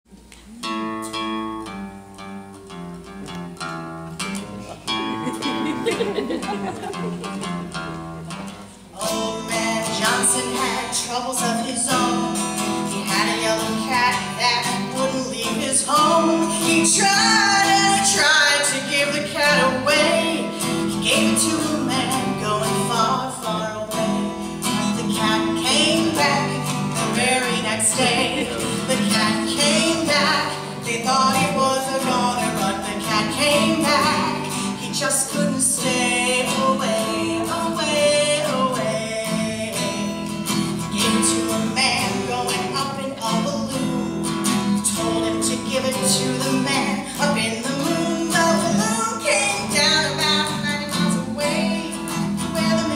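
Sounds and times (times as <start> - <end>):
guitar accompaniment: 0.1 - 52.9
woman singing: 9.0 - 52.9.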